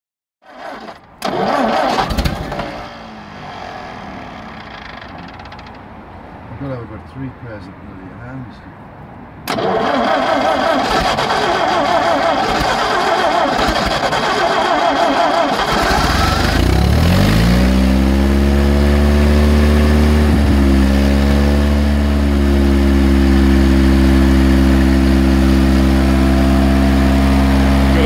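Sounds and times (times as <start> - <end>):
petrol engine revving and idling: 0.5 - 5.8, 9.5 - 28.0.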